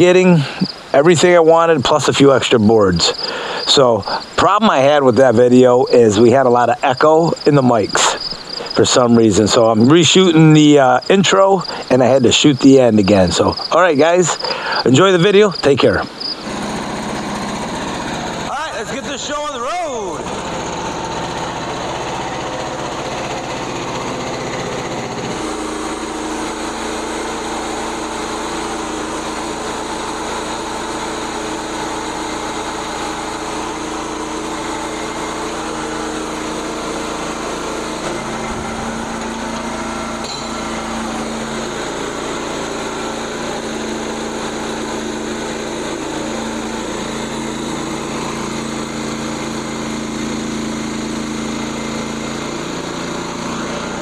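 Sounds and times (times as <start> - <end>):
small gasoline engine running: 0.0 - 54.0.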